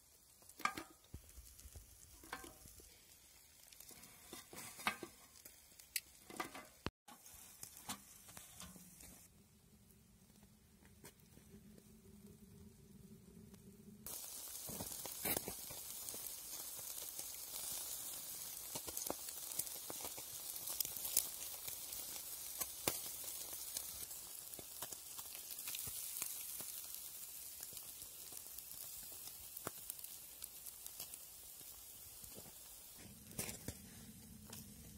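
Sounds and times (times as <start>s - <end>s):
fish sizzling over charcoal: 0.0s - 9.3s, 14.0s - 34.9s
crackles and pops: 0.0s - 34.9s.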